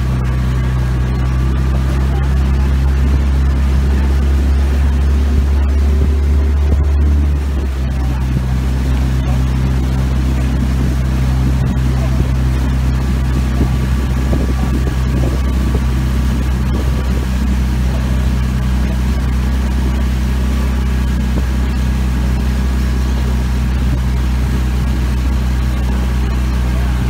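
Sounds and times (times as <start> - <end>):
outboard motor droning: 0.0 - 27.0.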